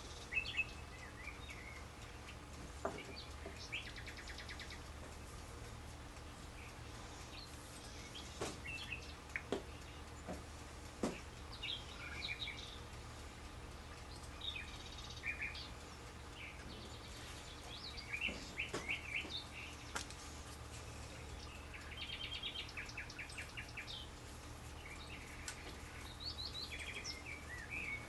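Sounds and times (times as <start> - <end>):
birds chirping: 0.0 - 28.0
low hum: 0.0 - 28.0.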